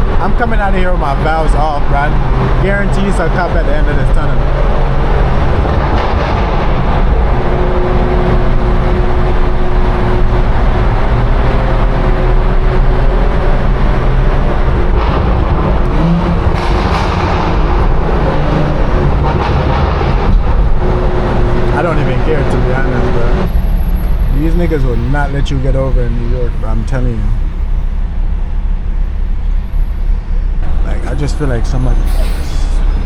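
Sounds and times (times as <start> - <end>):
car engine droning: 0.0 - 33.0
tyre and road noise: 0.0 - 33.0.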